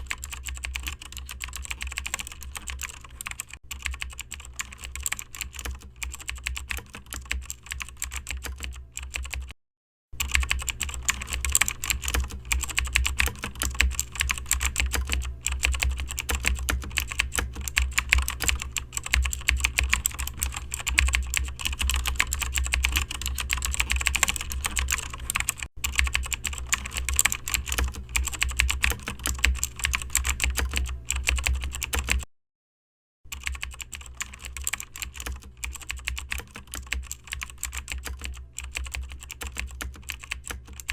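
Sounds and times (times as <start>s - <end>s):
fast keyboard typing: 0.0s - 9.6s, 10.2s - 32.3s, 33.3s - 40.9s.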